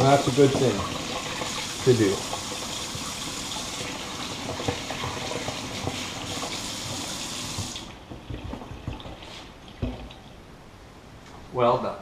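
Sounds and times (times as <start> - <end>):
tap running into sink: 0.0 - 10.2.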